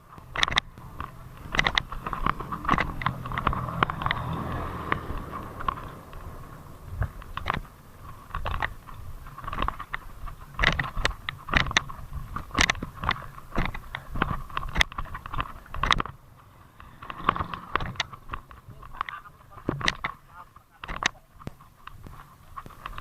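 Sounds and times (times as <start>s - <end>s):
mountain bike rattling: 0.0s - 23.0s.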